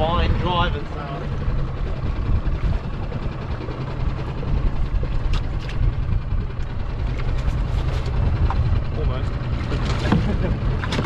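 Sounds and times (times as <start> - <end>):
boat engine idling: 0.0 - 11.0
water splashes: 0.0 - 11.0
wind on microphone: 0.0 - 11.0.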